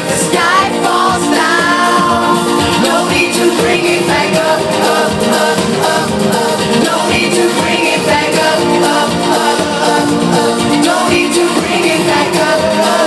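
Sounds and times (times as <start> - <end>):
live pop music: 0.0 - 13.0
person singing: 0.0 - 13.0.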